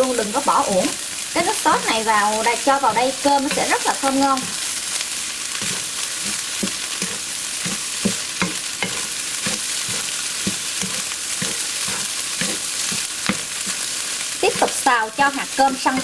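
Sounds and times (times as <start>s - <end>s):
rice sizzling in a wok: 0.0s - 16.0s
spatula scraping a pan: 1.5s - 16.0s.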